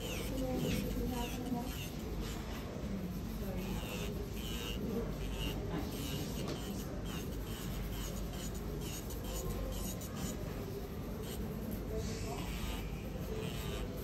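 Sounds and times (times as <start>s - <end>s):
nail file scratching fingernail: 0.0s - 14.0s.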